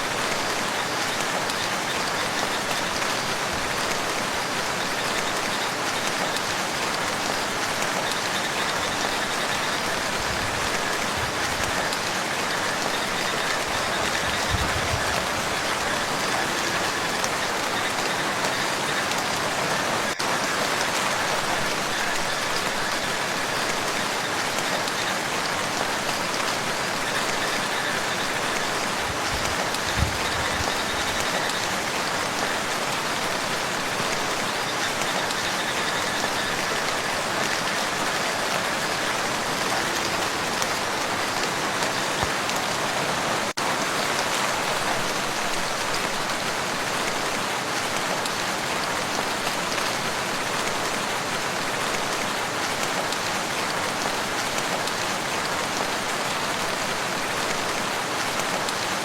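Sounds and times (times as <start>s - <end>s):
rain falling on water: 0.0s - 59.0s.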